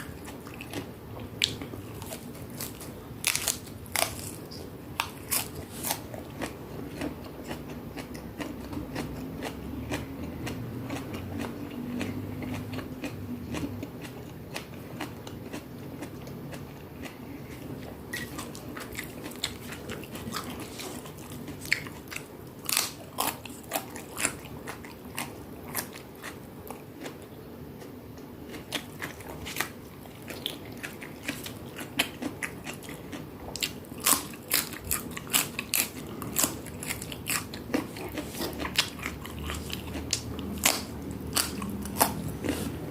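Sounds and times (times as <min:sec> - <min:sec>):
chewing crunchy food: 0:00.0 - 0:42.9.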